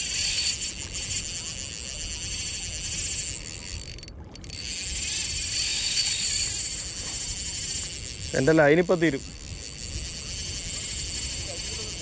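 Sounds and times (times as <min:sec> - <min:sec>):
fishing reel drag buzzing: 0:00.0 - 0:12.0.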